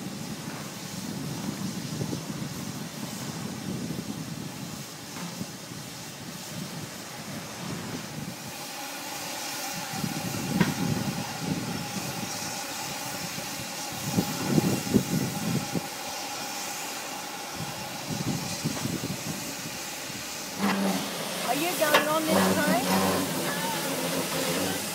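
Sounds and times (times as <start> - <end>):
steam locomotive hissing: 0.0 - 24.9.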